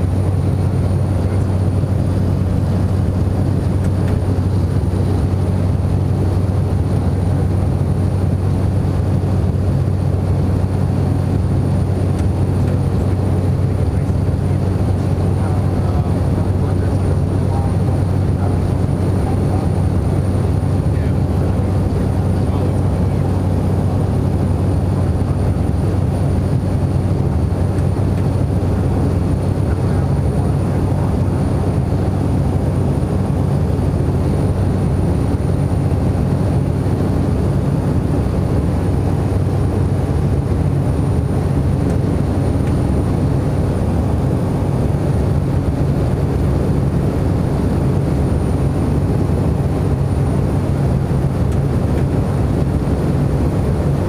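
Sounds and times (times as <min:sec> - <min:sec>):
propeller engine droning: 0:00.0 - 0:54.0.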